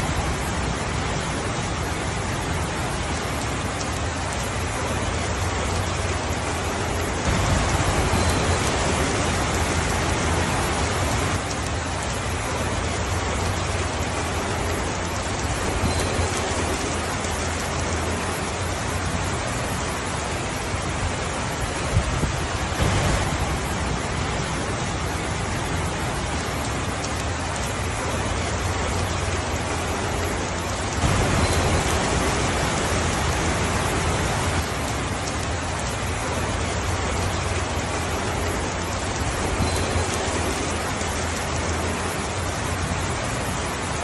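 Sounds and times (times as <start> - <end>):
steady rainfall: 0.0 - 44.0.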